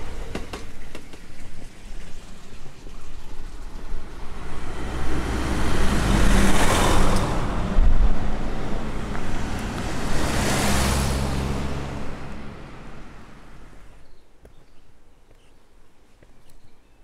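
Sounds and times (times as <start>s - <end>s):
trucks driving past: 0.0s - 14.1s.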